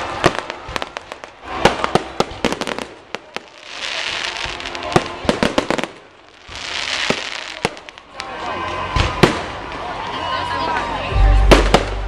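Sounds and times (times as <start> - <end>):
fireworks hissing crackle: 0.0 - 9.8
fireworks pops and bangs: 0.0 - 9.8, 11.5 - 12.0.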